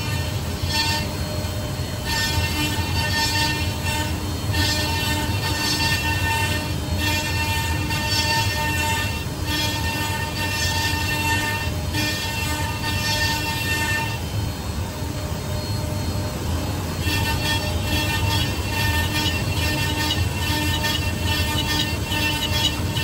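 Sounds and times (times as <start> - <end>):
wood router spindles whining: 0.0 - 23.0.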